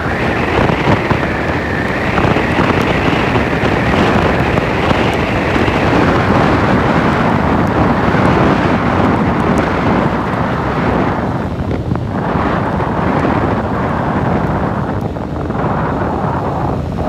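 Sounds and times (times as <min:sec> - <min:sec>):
road noise on wet road: 0:00.0 - 0:17.0
wind rushing over microphone: 0:00.0 - 0:17.0.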